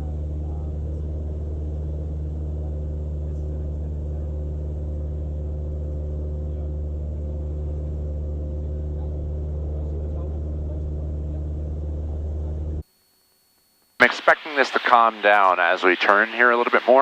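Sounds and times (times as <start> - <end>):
airplane engine and propeller droning: 0.0 - 12.8, 14.0 - 17.0.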